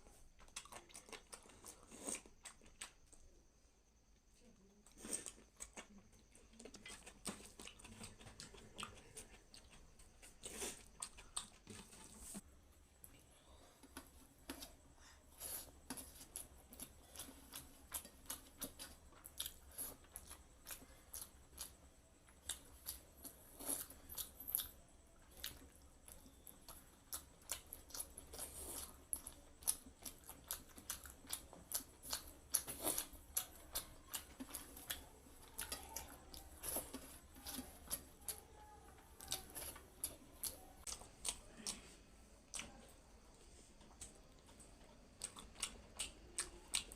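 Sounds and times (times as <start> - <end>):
person chewing food: 0.0 - 3.4, 4.8 - 46.9.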